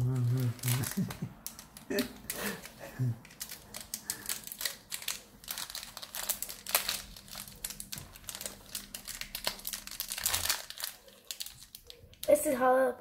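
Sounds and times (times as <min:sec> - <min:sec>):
foil wrapper crinkling: 0:00.0 - 0:12.6.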